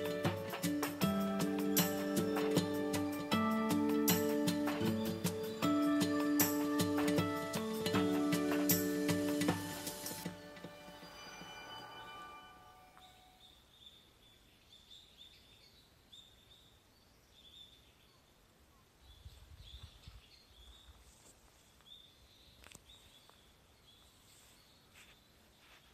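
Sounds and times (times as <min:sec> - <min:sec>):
faint birds chirping: 0:00.0 - 0:25.9.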